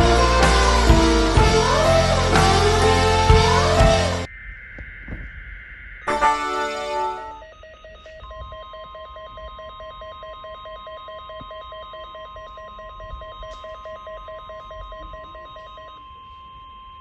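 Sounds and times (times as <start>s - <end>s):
steady high alarm tone: 0.0s - 17.0s.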